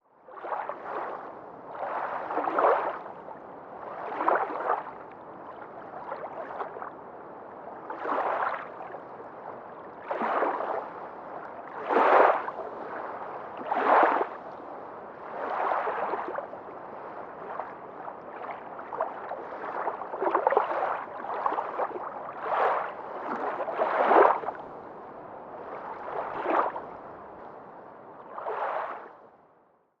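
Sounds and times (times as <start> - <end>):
underwater water noise surges: 0.3 - 7.0, 7.8 - 27.5, 28.2 - 29.2.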